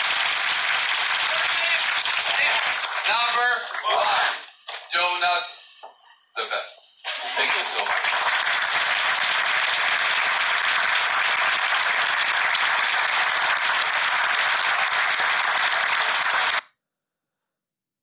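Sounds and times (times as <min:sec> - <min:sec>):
people applauding: 0:00.0 - 0:04.8, 0:07.1 - 0:16.7.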